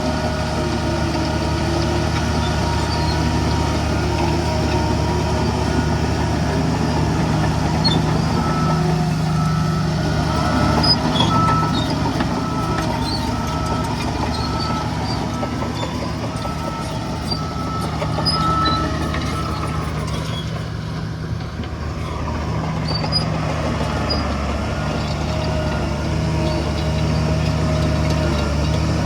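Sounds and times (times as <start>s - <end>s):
heavy diesel engine under load: 0.0s - 29.0s
reversing alarm beeping: 2.2s - 28.4s.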